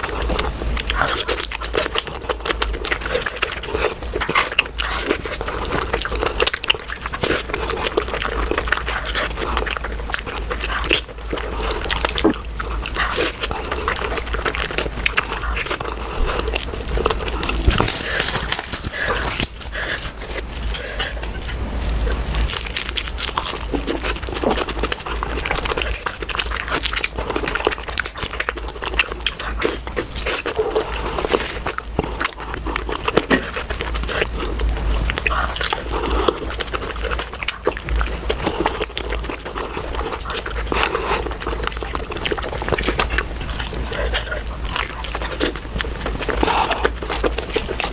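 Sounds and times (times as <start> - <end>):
chewing and wet mouth sounds: 0.0 - 47.9.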